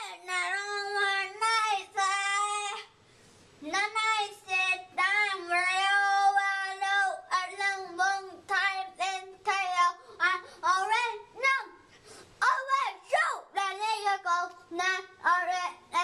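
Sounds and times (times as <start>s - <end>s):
child singing: 0.0s - 3.0s, 3.6s - 16.0s.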